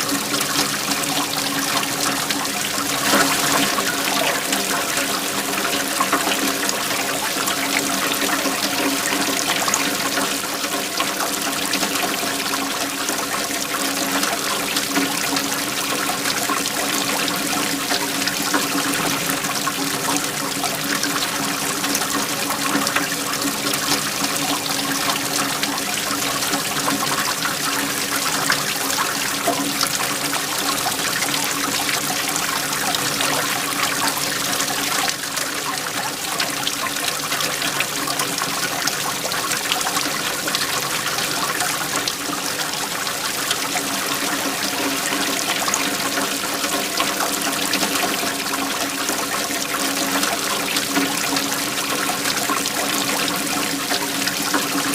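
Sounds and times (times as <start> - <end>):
waterfall splashing: 0.0 - 54.9.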